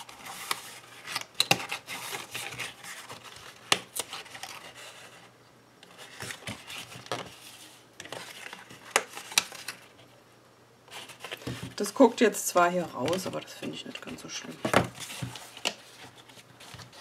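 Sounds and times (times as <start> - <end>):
cardboard rustling and rubbing: 0.0 - 5.3, 5.9 - 10.1, 10.9 - 12.1, 13.0 - 17.0.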